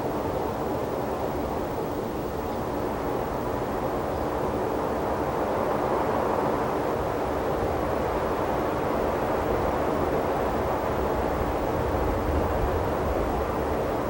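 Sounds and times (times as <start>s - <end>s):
steady rushing noise outdoors: 0.0s - 14.0s.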